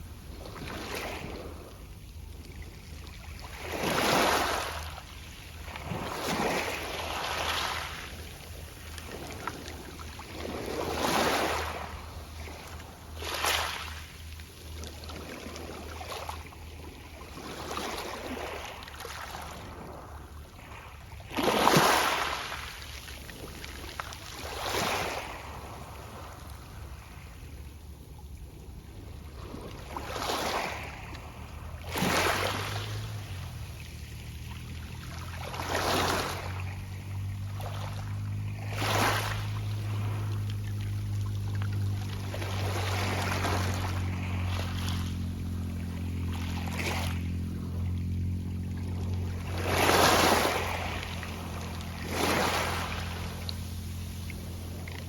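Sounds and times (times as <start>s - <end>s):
waves rattling pebbles: 0.0s - 55.0s.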